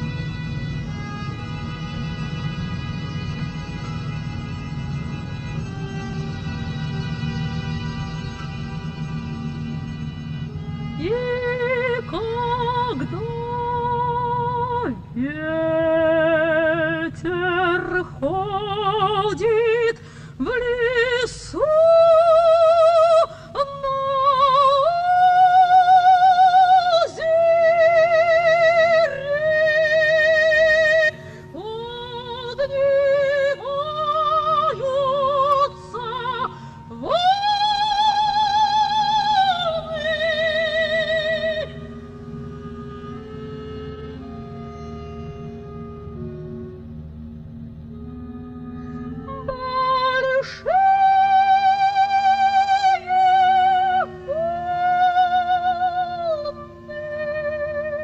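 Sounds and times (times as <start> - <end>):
operatic soprano singing: 0.0 - 44.7, 49.0 - 58.0
soft orchestral accompaniment: 0.0 - 58.0.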